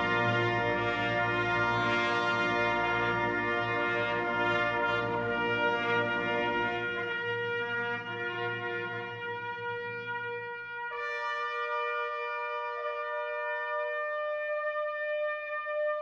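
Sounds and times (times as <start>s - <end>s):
slow brass chords: 0.0s - 15.7s.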